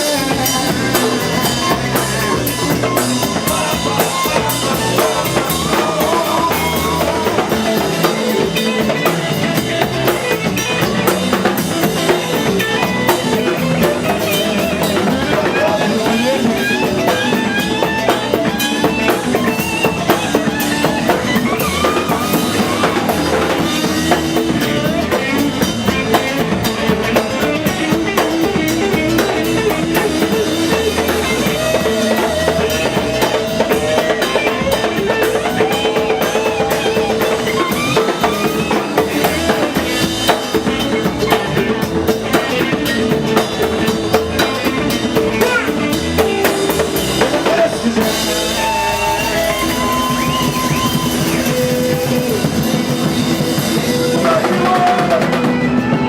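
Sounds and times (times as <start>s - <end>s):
drum kit groove: 0.0s - 56.0s
guitar: 0.0s - 56.0s
live band playing: 0.0s - 56.0s.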